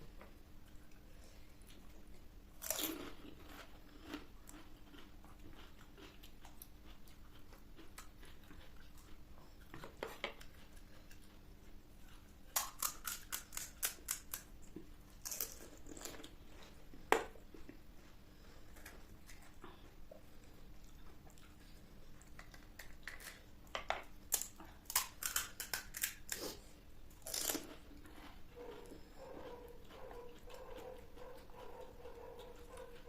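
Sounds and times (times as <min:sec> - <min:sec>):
crunchy food chewing: 0:01.6 - 0:23.5, 0:24.3 - 0:33.0.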